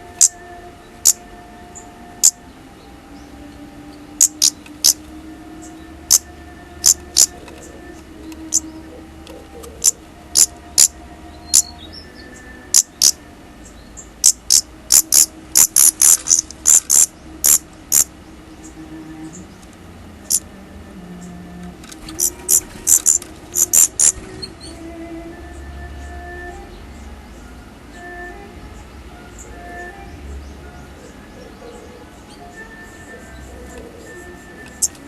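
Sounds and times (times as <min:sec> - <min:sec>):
bird call notes: 0:00.0 - 0:20.5, 0:21.2 - 0:35.0.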